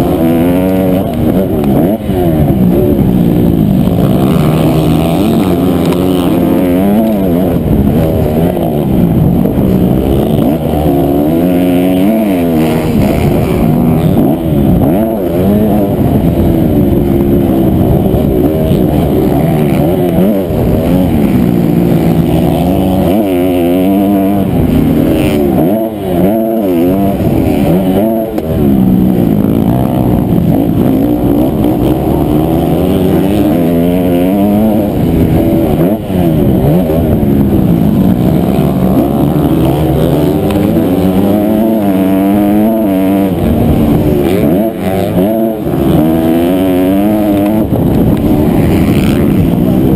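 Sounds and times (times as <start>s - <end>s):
motocross engine revving: 0.0s - 49.9s.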